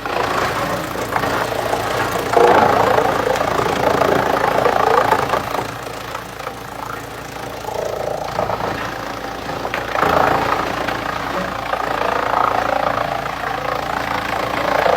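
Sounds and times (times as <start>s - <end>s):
wood chipper engine drone: 0.0s - 14.9s.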